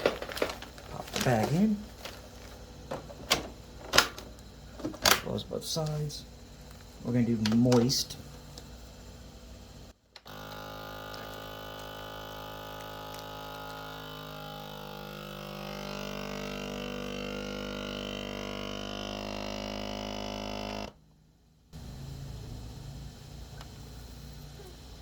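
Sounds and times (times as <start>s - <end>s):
vacuum sealer motor hum: 0.0s - 21.0s, 21.8s - 25.0s.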